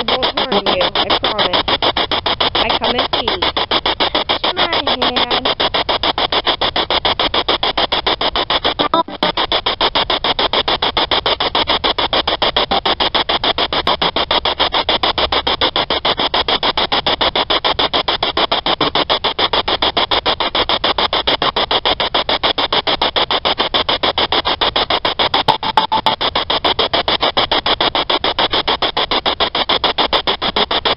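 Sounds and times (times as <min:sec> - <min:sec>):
pulsing radio static: 0:00.0 - 0:30.9.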